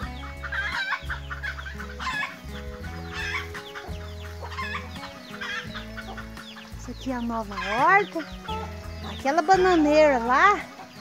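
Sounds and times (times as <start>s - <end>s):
chickens clucking: 0.0s - 11.0s
music of held low notes: 0.0s - 11.0s.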